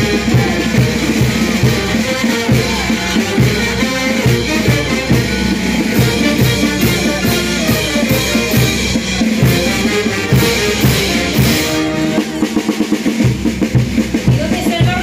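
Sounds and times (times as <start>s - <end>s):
drum kit beat: 0.0s - 15.0s
live band music: 0.0s - 15.0s.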